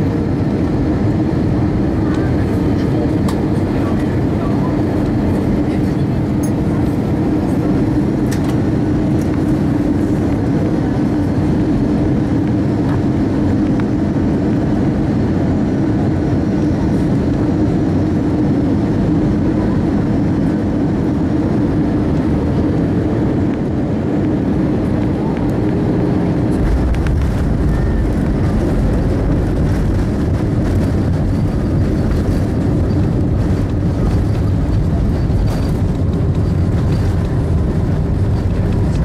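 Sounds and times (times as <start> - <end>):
airliner cabin engine noise: 0.0 - 39.0.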